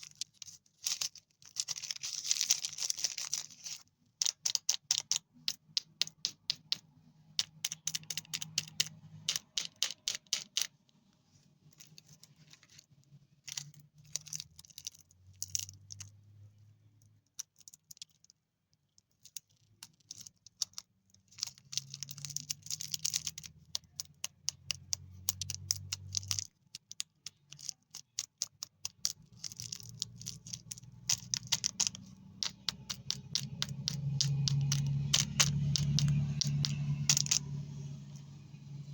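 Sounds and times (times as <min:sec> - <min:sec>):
candy wrappers crinkling: 0:00.0 - 0:06.8, 0:07.4 - 0:10.7, 0:11.7 - 0:16.2, 0:17.3 - 0:38.3.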